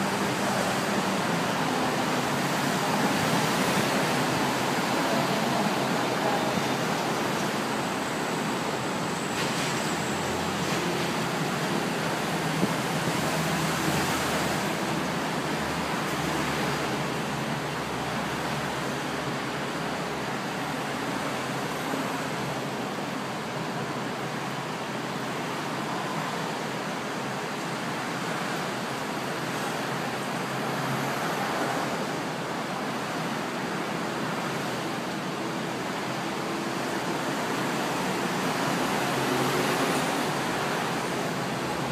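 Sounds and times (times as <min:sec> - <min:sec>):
distant road traffic: 0:00.0 - 0:41.9.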